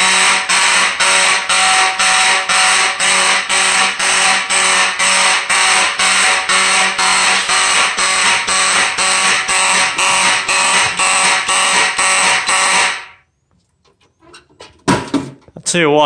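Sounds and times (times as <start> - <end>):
raspy pulsing alarm horn: 0.0 - 13.3.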